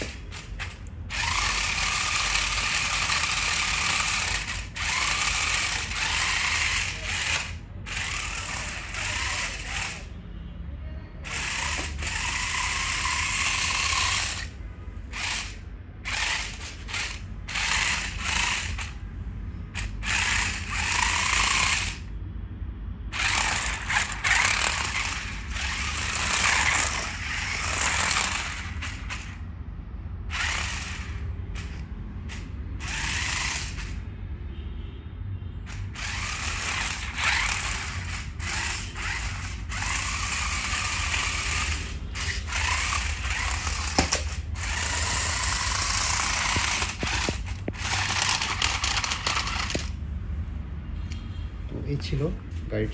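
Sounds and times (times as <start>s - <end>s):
toy car motor whirring: 0.0s - 10.2s, 11.2s - 19.0s, 19.7s - 22.1s, 23.1s - 29.4s, 30.2s - 34.0s, 35.7s - 50.0s.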